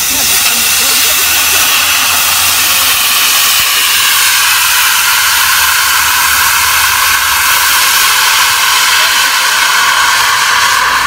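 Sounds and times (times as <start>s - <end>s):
hiss of escaping steam: 0.0s - 11.0s.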